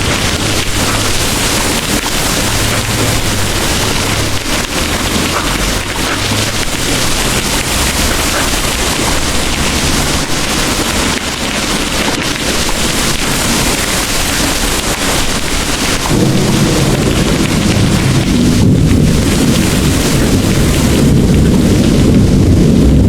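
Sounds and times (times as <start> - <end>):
distant thunder rumble: 0.0 - 23.0
heavy rain pouring: 0.0 - 23.0.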